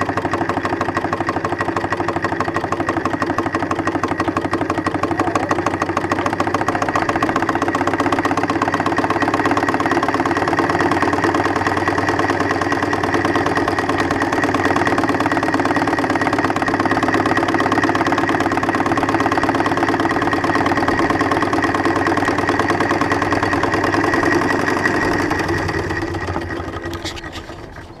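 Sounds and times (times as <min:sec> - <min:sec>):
steam traction engine clattering: 0:00.0 - 0:28.0.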